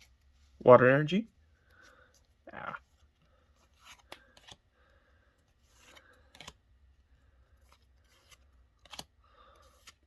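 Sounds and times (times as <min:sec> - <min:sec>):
cards sliding and rubbing: 0:01.6 - 0:10.0.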